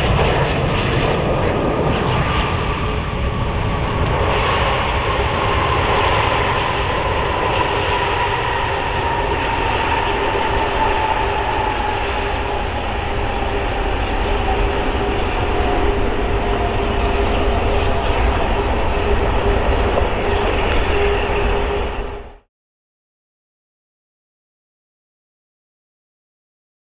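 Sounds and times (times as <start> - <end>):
jet engine whine falling in pitch: 0.0 - 22.5
jet engines roaring: 0.0 - 22.5.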